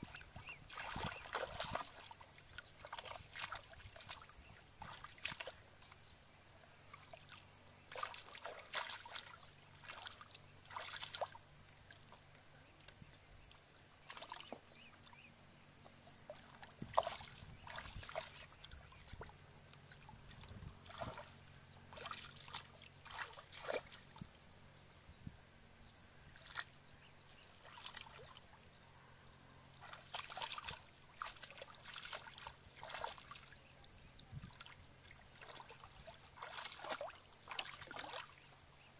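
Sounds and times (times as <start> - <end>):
splashing in shallow muddy water: 0.0 - 38.9.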